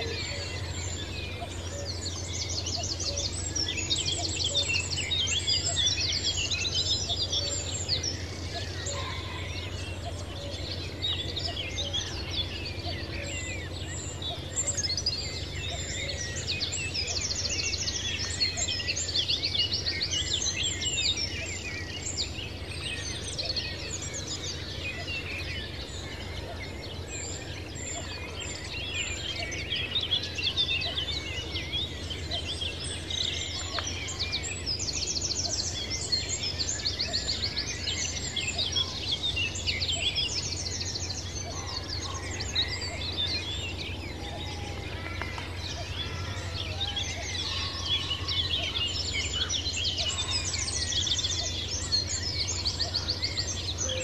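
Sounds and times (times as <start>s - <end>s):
birds chirping and calling: 0.0s - 54.0s.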